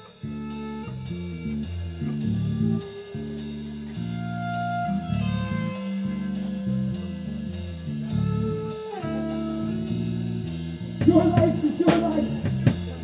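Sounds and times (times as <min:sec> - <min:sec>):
rock band playing instrumental: 0:00.0 - 0:13.0.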